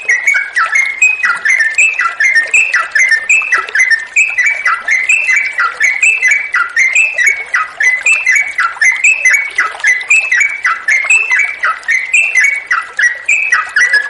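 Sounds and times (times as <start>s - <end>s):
bird chirping song: 0.0s - 14.0s
faint flowing water: 0.0s - 14.0s.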